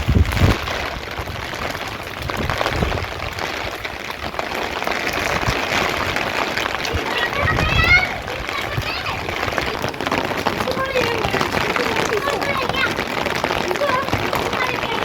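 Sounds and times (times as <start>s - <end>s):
low rumbles: 0.0s - 14.7s
rain falling steadily: 0.0s - 15.0s.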